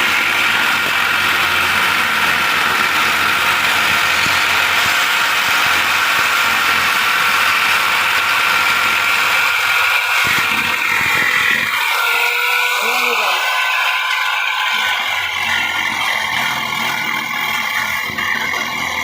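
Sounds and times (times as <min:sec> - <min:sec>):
power tool whining: 0:00.0 - 0:19.0.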